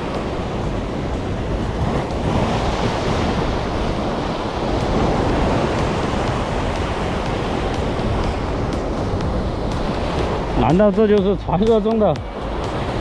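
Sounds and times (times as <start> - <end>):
heavy surf on rocky shore: 0.0 - 13.0
wind buffeting microphone: 0.0 - 13.0.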